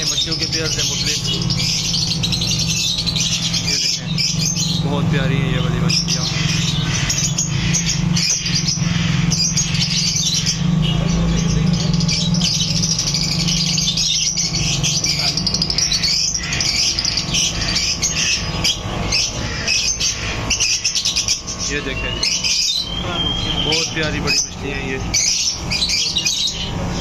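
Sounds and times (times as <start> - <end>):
caged birds chirping: 0.0 - 27.0
steady low hum: 0.0 - 27.0.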